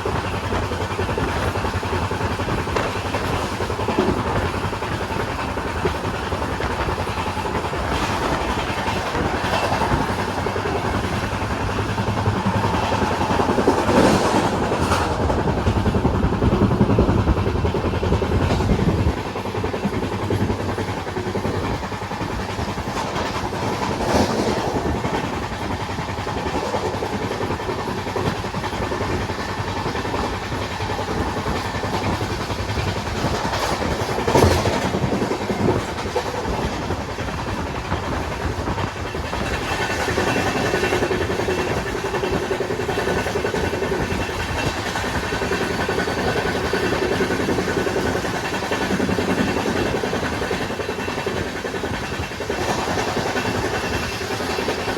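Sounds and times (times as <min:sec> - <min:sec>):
train clanks: 0:00.0 - 0:54.9
train wheels rumbling on rails: 0:00.0 - 0:54.9.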